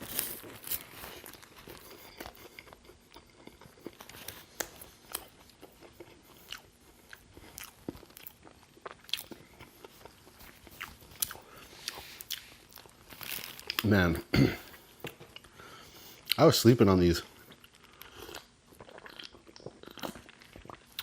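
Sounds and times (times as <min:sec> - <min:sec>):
close chewing crunches: 0:00.0 - 0:14.1, 0:17.2 - 0:21.0.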